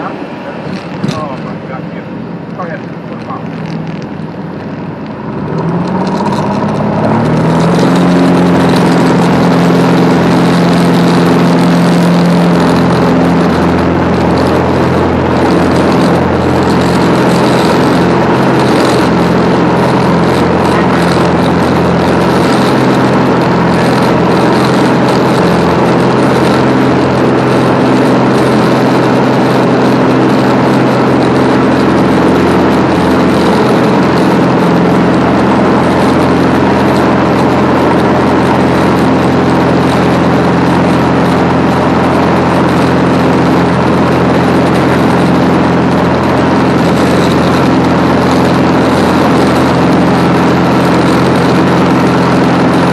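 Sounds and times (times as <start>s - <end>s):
aircraft engine and propeller: 0.0s - 52.9s.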